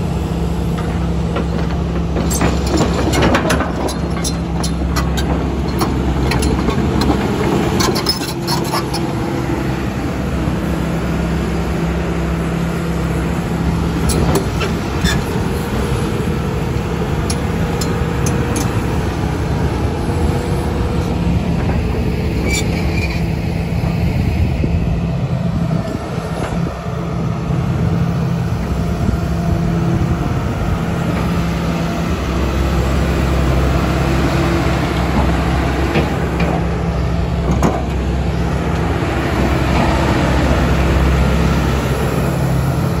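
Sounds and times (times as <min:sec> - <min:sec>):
excavator diesel engine idling: 0:00.0 - 0:43.0.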